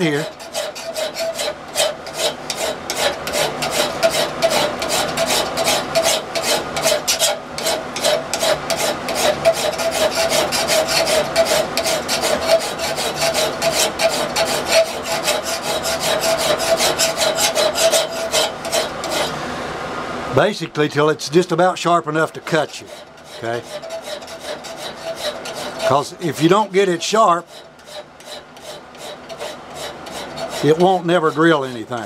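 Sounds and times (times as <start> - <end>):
file rasping on steel: 0.0 - 19.4, 22.3 - 32.0.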